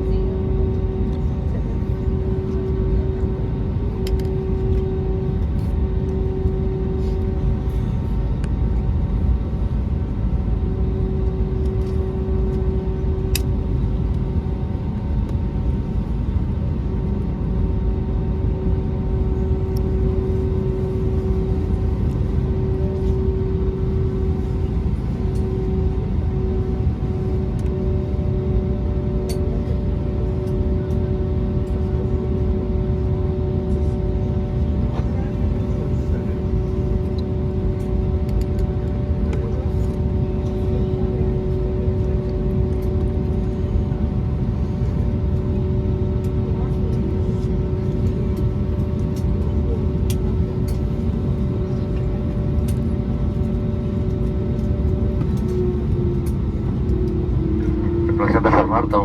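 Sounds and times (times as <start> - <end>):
aircraft engines idling rumble: 0.0 - 59.0
steady cabin hum: 0.0 - 59.0.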